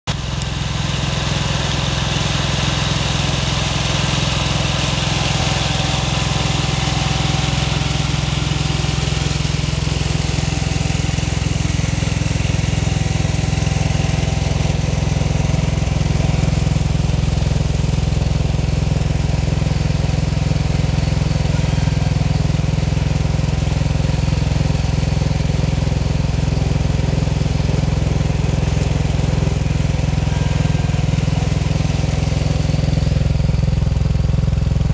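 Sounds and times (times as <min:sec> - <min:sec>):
small gasoline engine idling: 0:00.1 - 0:34.9.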